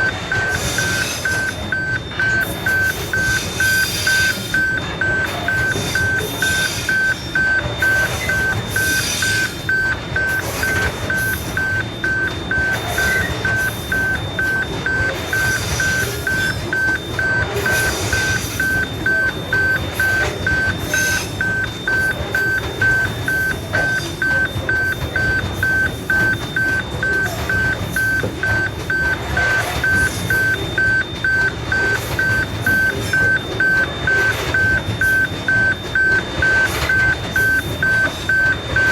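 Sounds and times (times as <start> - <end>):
crossing warning bell dinging: 0.0 - 38.9.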